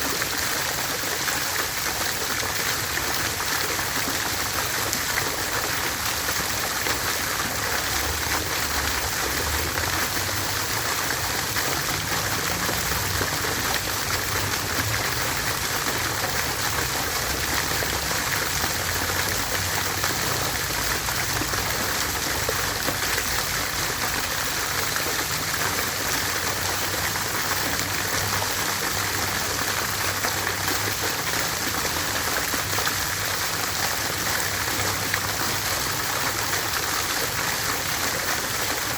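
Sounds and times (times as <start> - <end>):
water fountain splashing: 0.0 - 38.9.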